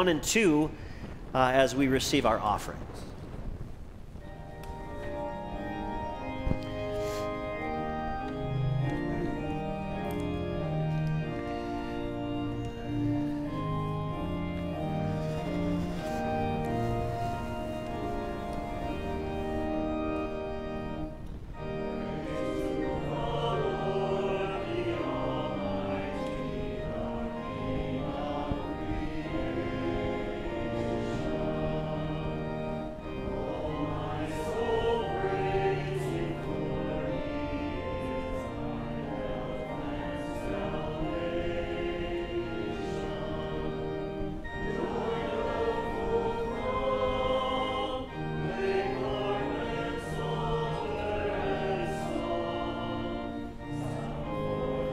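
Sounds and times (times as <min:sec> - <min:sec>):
congregation singing a hymn: 0:00.0 - 0:02.9, 0:04.2 - 0:54.9
organ accompaniment: 0:00.0 - 0:54.9.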